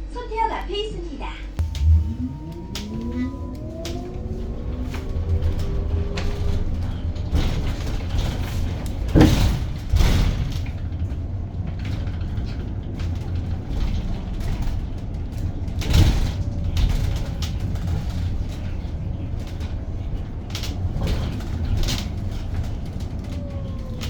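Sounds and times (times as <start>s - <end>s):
bus road and running noise: 0.0s - 24.0s.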